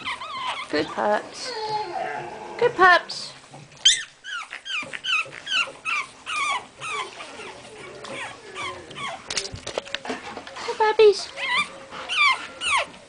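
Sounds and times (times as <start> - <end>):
dog whining: 0.0 - 2.4, 3.8 - 10.3, 11.3 - 13.0.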